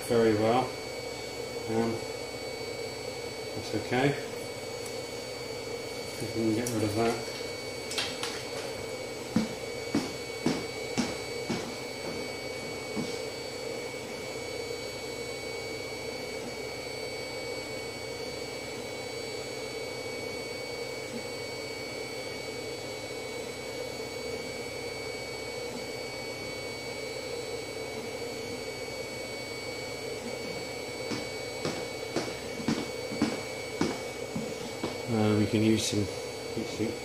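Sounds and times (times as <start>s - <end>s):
machine hum: 0.0s - 37.0s.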